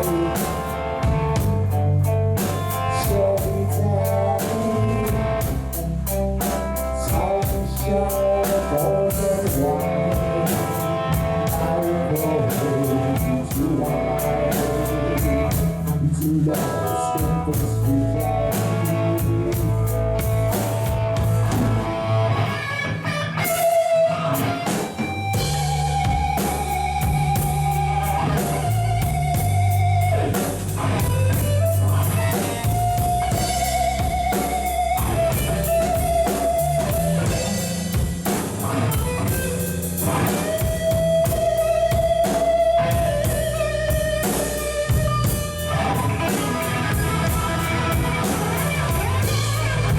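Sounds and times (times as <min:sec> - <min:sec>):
bass guitar: 0:00.0 - 0:49.9
drum kit: 0:00.0 - 0:49.9
electric guitar lead notes: 0:00.0 - 0:49.9.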